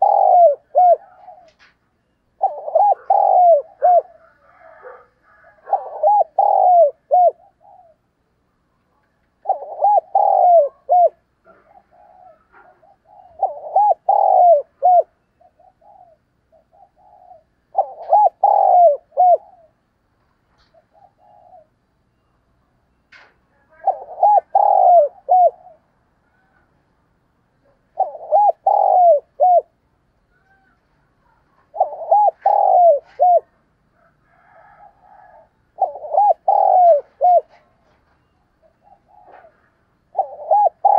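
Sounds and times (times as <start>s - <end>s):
dove cooing: 0.0s - 8.3s, 8.9s - 19.9s, 20.6s - 21.8s, 23.6s - 26.7s, 27.6s - 40.9s.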